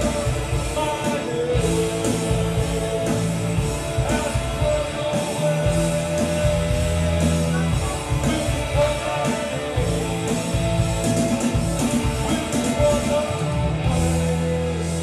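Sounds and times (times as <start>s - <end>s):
person singing: 0.0s - 10.4s, 11.8s - 15.0s
bass line: 0.0s - 15.0s
drums: 0.0s - 15.0s
electric guitars: 0.0s - 15.0s
keyboard: 0.0s - 15.0s.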